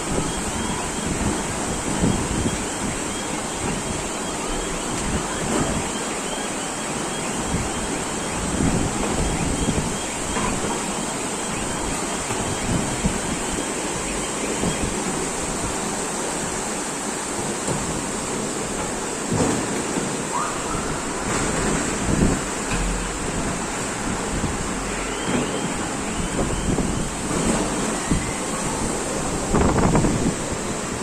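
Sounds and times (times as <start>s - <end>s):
wind buffeting microphone: 0.0s - 5.9s, 7.4s - 16.0s, 20.6s - 31.0s
rushing floodwater: 0.0s - 31.0s.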